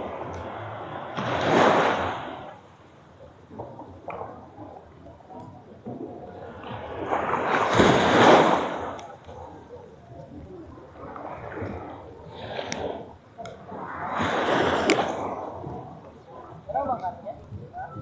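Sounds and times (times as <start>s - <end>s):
small waves washing on beach: 0.0s - 18.0s.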